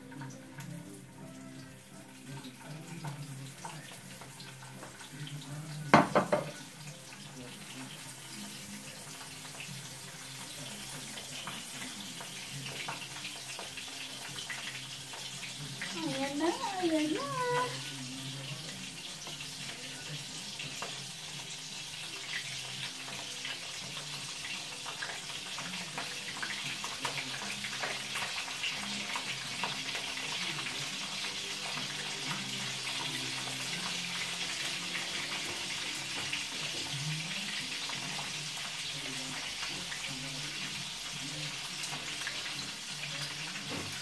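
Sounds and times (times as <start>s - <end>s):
fish sizzling in hot oil: 0.0s - 44.0s.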